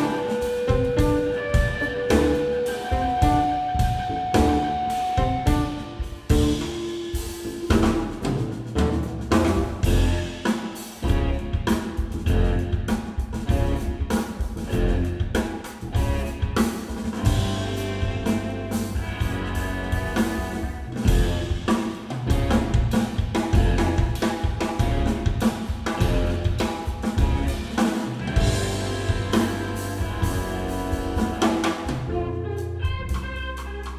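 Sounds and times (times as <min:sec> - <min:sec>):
bass guitar line: 0:00.0 - 0:33.9
drum kit beat: 0:00.0 - 0:33.9
electric guitar: 0:00.0 - 0:33.9.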